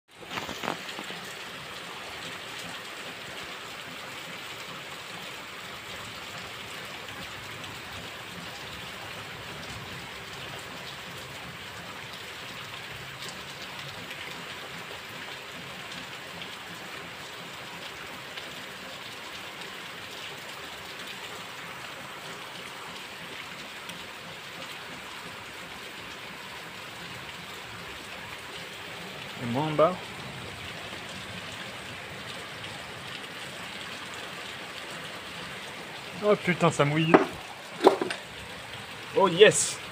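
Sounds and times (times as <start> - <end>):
heavy rain on pavement: 0.1 - 39.9.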